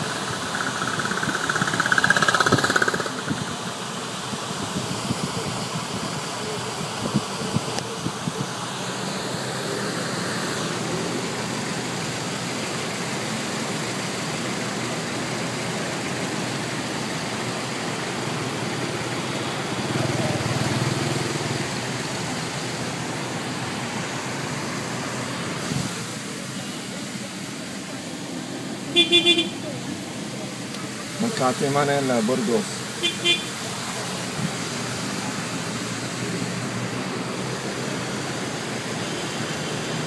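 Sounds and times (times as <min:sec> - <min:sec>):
city traffic engines: 0:00.0 - 0:40.0.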